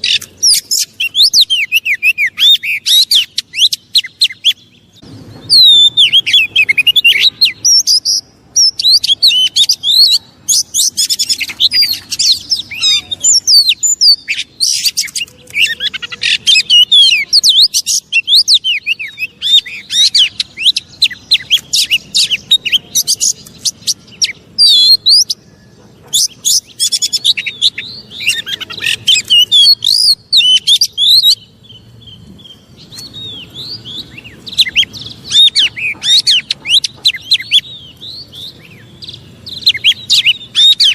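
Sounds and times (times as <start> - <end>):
bird singing loud chirps and whistles: 0.0 - 40.9.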